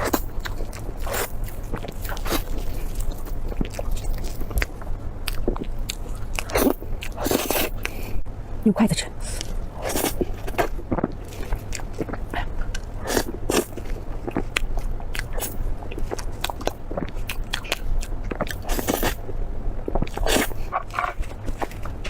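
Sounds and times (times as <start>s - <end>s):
crunchy chewing: 0.0s - 8.1s, 9.4s - 22.0s
steady low hum: 0.0s - 22.0s.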